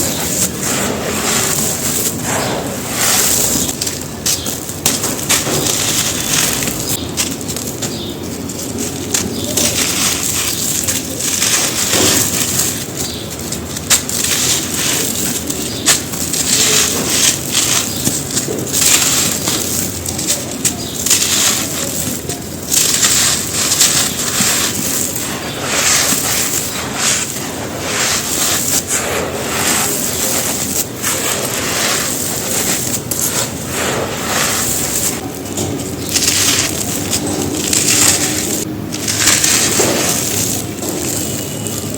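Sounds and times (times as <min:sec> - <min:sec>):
dirt clumps crunching: 0:00.0 - 0:41.9.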